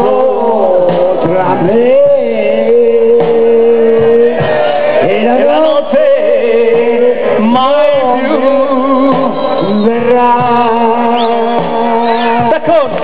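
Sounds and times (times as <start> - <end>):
live band held chords: 0.0 - 13.0
man singing: 0.0 - 13.0.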